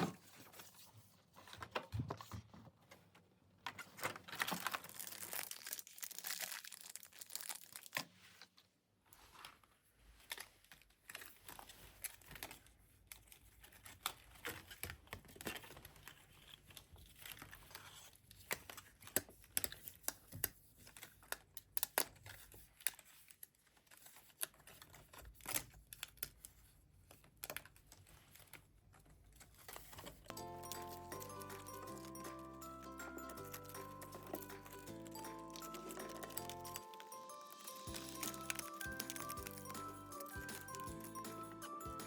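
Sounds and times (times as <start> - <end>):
crinkling and rustling: 0.0 - 42.0.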